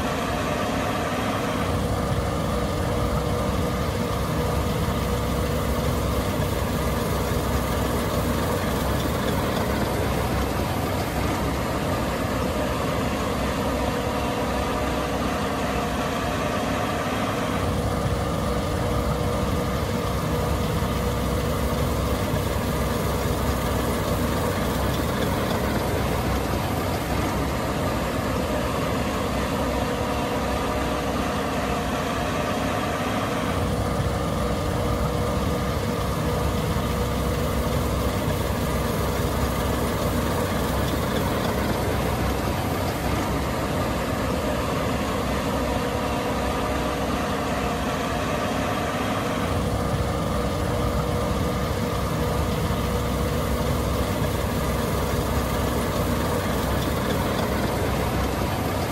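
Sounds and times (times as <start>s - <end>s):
combine harvester engine humming: 0.0s - 58.9s.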